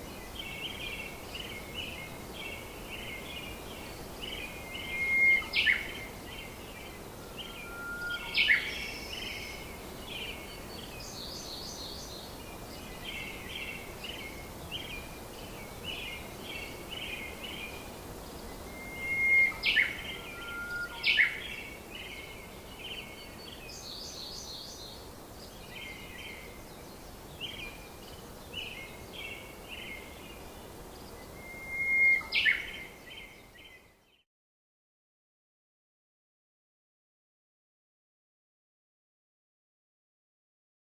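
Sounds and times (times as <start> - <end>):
steady hiss: 0.0 - 33.9
birds chirping and trilling: 0.2 - 34.2.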